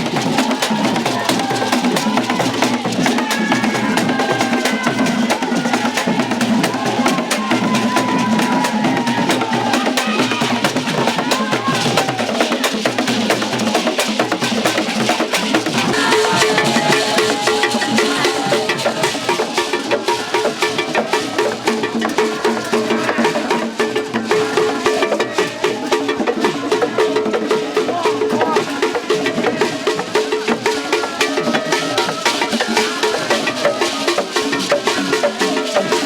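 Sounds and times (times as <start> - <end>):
drum music with clacking beat: 0.0 - 36.0.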